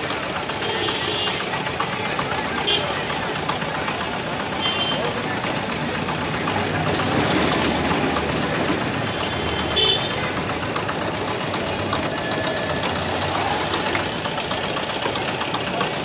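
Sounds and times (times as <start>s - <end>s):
motorcycle engine idling: 0.0s - 16.0s
street traffic noise: 0.0s - 16.0s.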